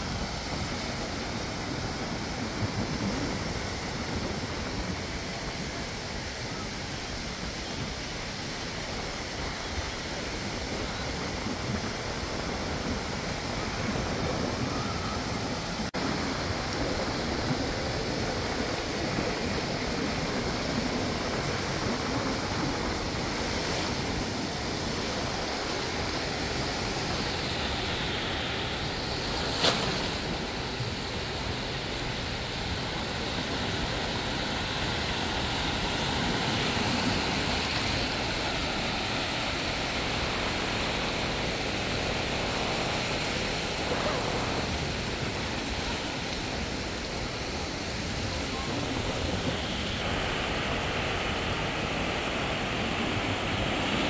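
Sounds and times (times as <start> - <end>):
waves washing on sandy shore: 0.0 - 54.0.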